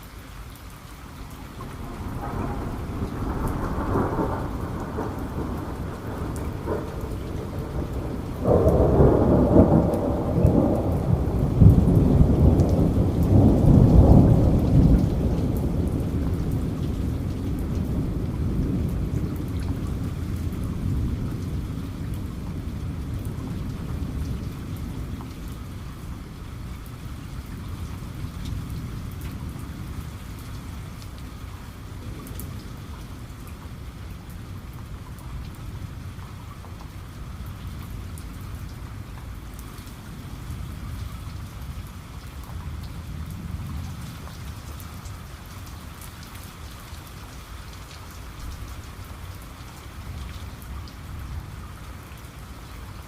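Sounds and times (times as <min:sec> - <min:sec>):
steady rain: 0:00.0 - 0:53.0
low rumble of thunder: 0:00.5 - 0:53.0
raindrop ticks: 0:01.2 - 0:26.0, 0:26.7 - 0:51.0.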